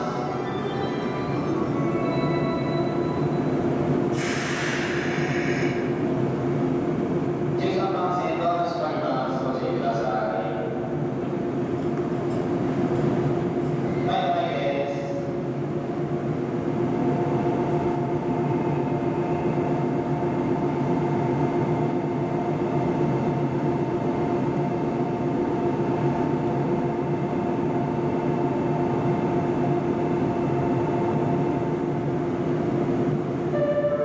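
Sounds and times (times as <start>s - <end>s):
electric train hum: 0.0s - 34.0s.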